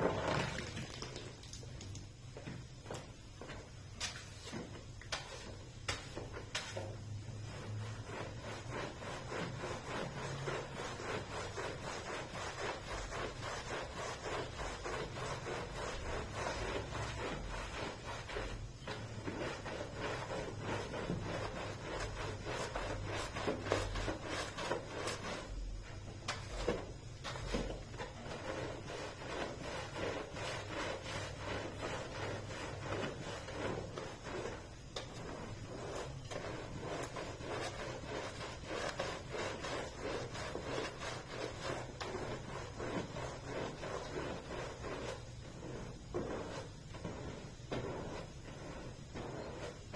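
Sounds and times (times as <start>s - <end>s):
carpet being rubbed: 0.0s - 1.4s, 2.7s - 49.9s.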